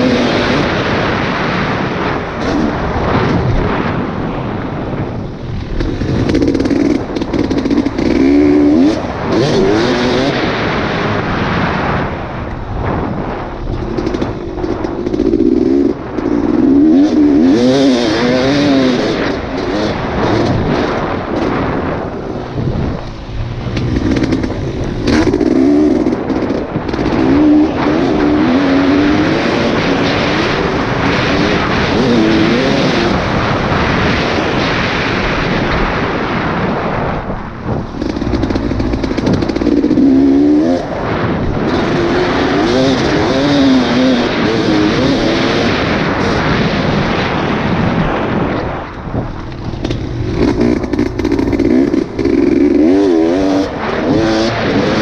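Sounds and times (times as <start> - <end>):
off-road engine revving: 0.0 - 4.2, 4.8 - 55.0
wind buffeting microphone: 0.0 - 55.0.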